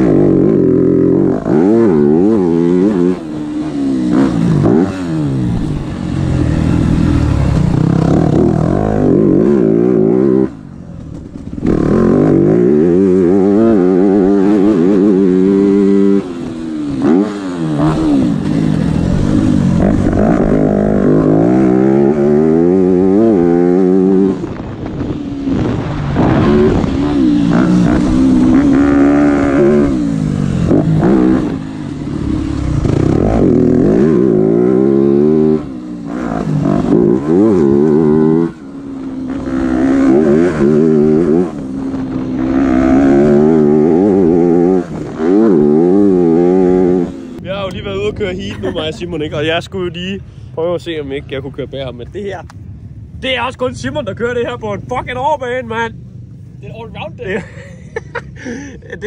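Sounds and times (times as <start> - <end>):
dirt bike engine revving: 0.0 - 49.6.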